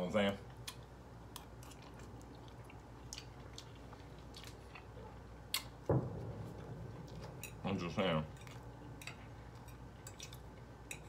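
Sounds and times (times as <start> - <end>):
person chewing food: 0.5 - 7.6, 8.3 - 11.0.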